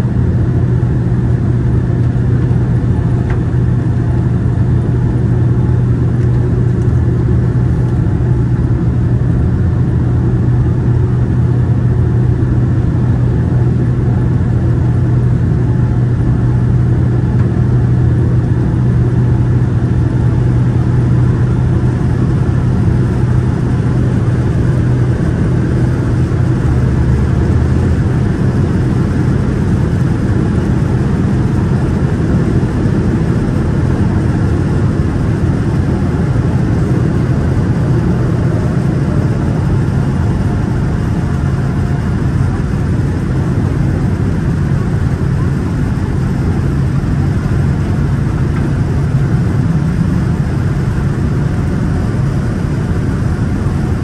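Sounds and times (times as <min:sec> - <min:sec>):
airliner cabin engine drone: 0:00.0 - 0:54.0.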